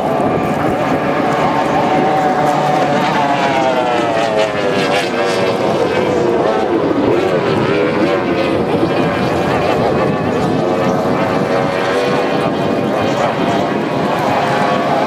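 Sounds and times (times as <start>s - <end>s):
race boat engine whine: 0.0s - 15.0s.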